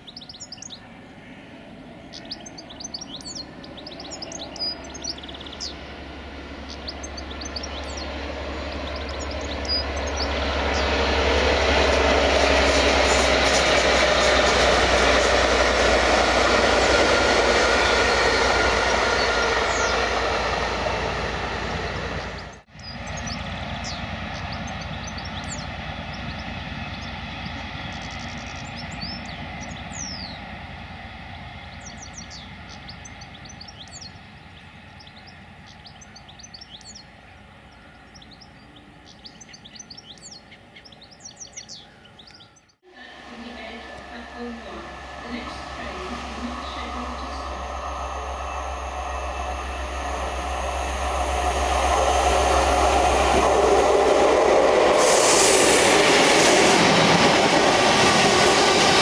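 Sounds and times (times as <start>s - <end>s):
birds chirping: 0.0s - 59.0s
distant train rumble: 0.0s - 59.0s
train engine hum: 0.0s - 59.0s
train passing on rails: 0.0s - 59.0s.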